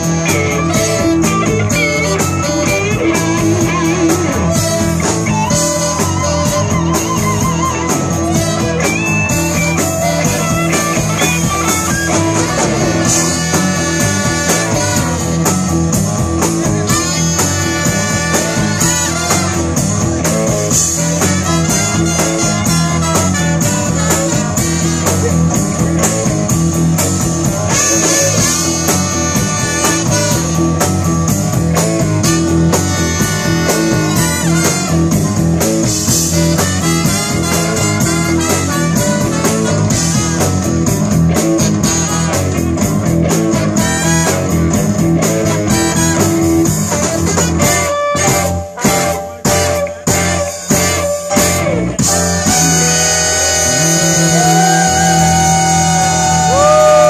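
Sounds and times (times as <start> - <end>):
horn section: 0.0 - 57.0
live blues band playing: 0.0 - 57.0.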